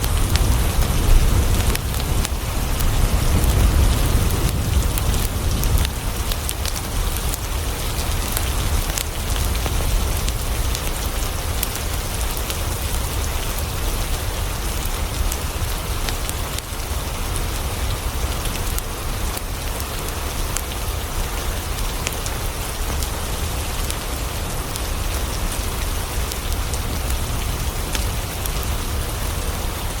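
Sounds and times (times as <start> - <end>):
steady rain on a surface: 0.0 - 30.0.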